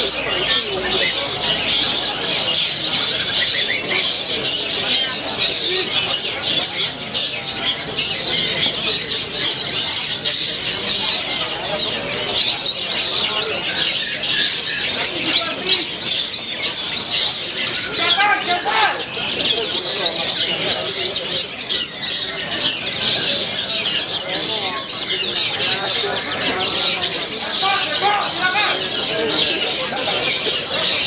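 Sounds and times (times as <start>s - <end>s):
birds chirping and trilling: 0.0s - 31.0s.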